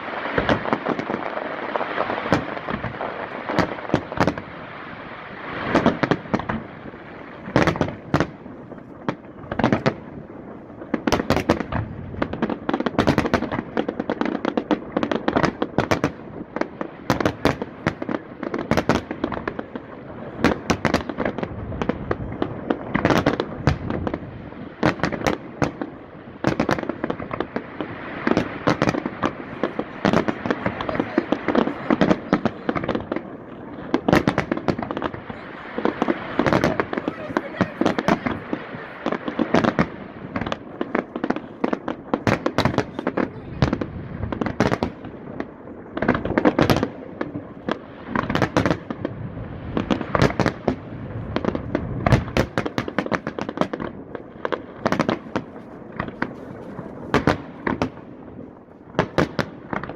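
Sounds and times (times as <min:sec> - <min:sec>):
fireworks bangs: 0:00.0 - 0:59.9
fireworks crackling: 0:00.0 - 0:59.9.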